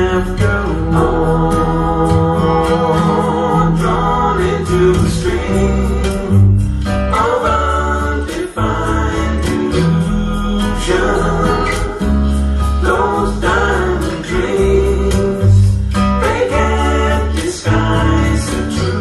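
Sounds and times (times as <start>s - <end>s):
song with guitar and singing: 0.0s - 19.0s.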